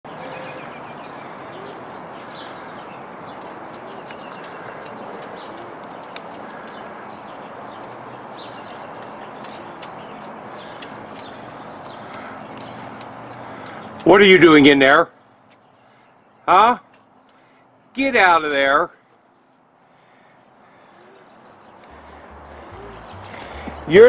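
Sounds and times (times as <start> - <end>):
small birds chirping: 0.1 - 18.4, 19.0 - 24.0.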